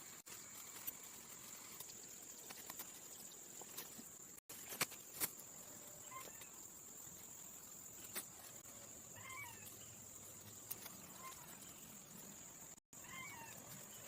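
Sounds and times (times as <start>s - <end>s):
insect drone: 0.0s - 14.0s.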